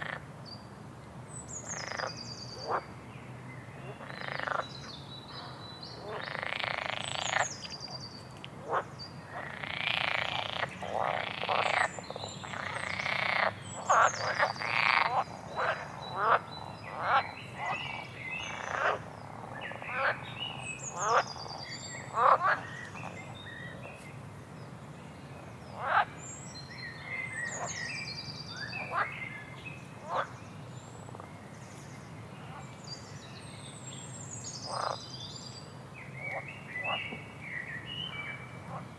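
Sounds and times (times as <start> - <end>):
songbird singing: 1.3 - 38.9.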